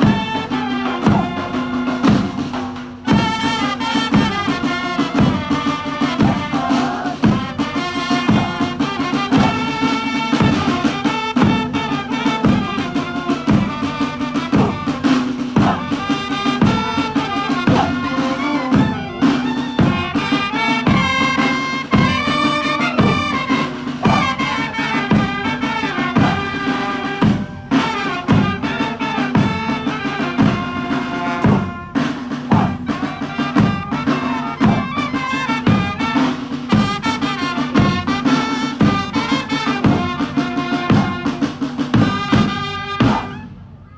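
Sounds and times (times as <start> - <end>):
steady drum beat: 0.0 - 43.6
brass-like melody: 0.0 - 43.8.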